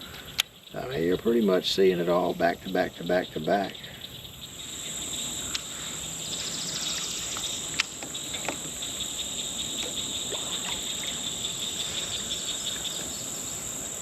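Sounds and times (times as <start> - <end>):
insect chorus trilling: 0.0 - 14.0.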